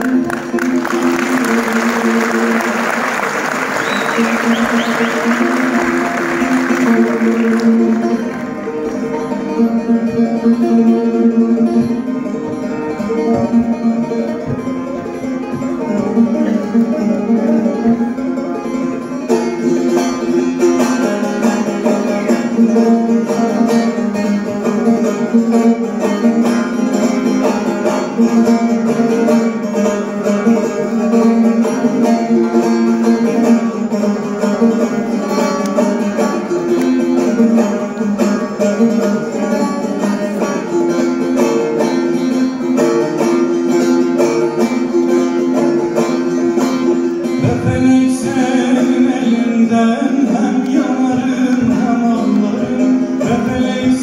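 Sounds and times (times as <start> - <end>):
plucked long-necked lute melody: 0.0 - 54.0.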